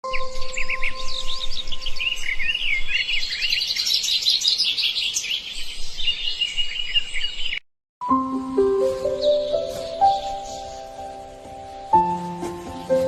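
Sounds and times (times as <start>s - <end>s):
songbird chirping and trilling: 0.0s - 13.0s.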